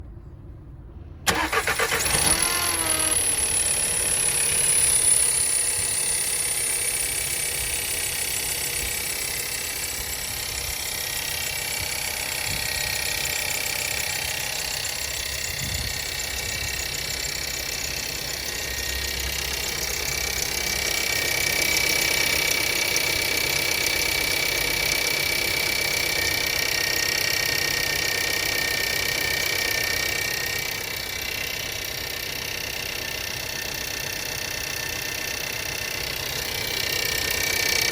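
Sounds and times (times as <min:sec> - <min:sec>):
car engine starting and idling: 0:00.0 - 0:37.9.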